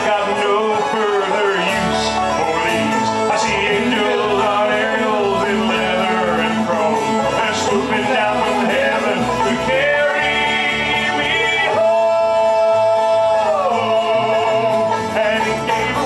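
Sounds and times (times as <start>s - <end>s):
bluegrass string band playing: 0.0s - 16.0s.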